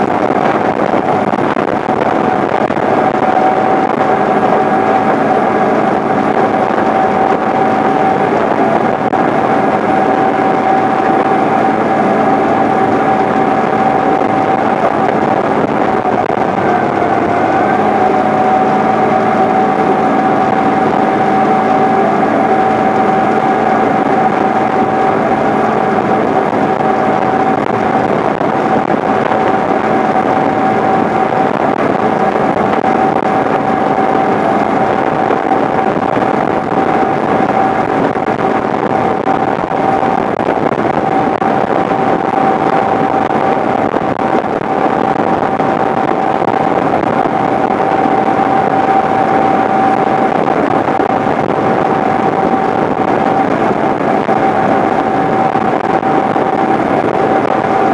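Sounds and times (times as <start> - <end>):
tractor diesel engine droning: 0.0 - 57.9.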